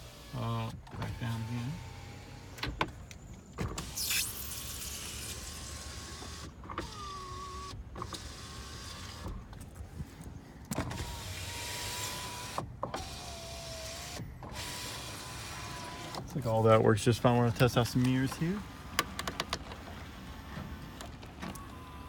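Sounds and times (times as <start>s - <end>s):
power window motor whine: 0.0s - 3.0s, 3.6s - 9.6s, 10.7s - 16.3s, 18.4s - 22.0s.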